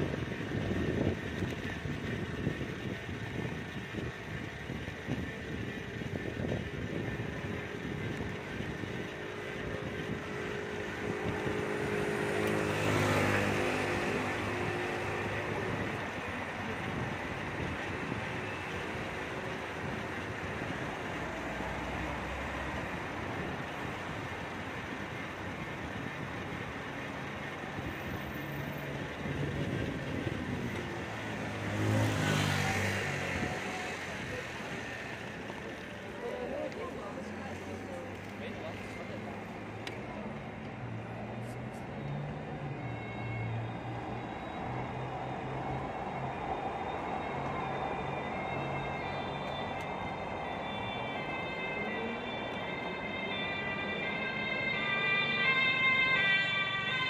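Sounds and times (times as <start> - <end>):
bicycle rolling noise: 0.0 - 12.8, 13.4 - 31.4, 34.0 - 41.4, 42.5 - 54.6
road and wind noise: 0.0 - 57.0.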